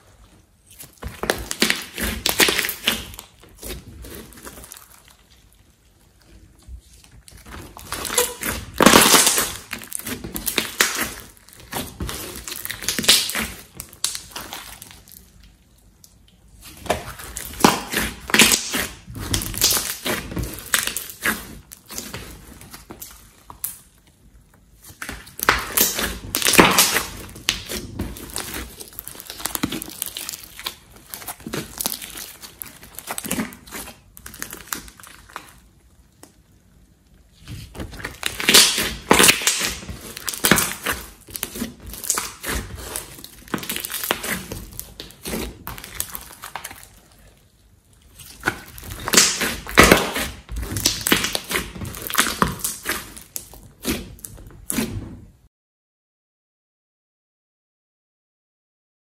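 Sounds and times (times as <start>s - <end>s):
slime crackling and popping: 0.6s - 54.9s.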